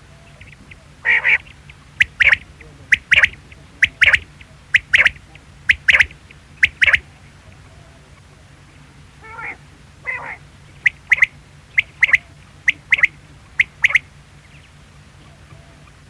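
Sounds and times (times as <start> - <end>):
quail singing: 0.0 - 16.0.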